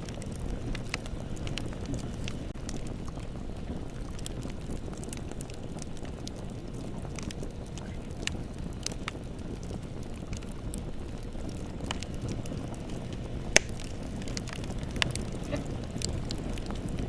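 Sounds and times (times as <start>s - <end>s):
bonfire burning: 0.0s - 17.0s.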